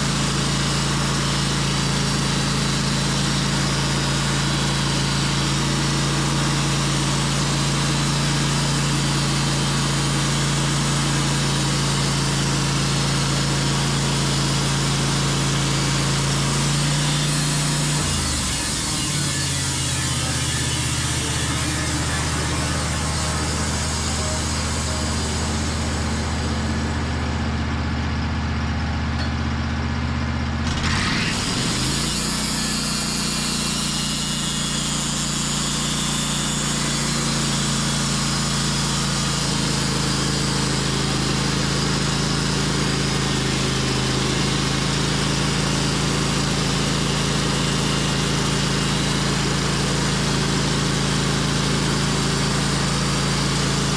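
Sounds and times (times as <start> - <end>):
saw cutting log: 0.0 - 28.6, 30.6 - 53.9
sawmill engine running: 0.0 - 53.9.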